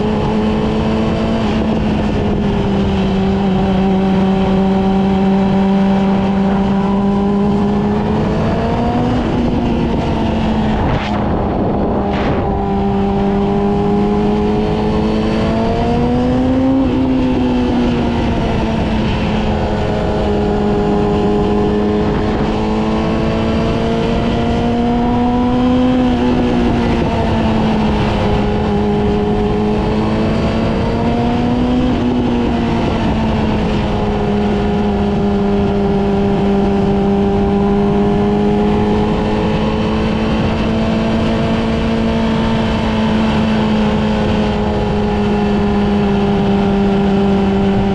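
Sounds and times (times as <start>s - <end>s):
motorcycle engine cruising: 0.0s - 47.9s
road noise: 0.0s - 47.9s
rushing wind: 0.0s - 47.9s.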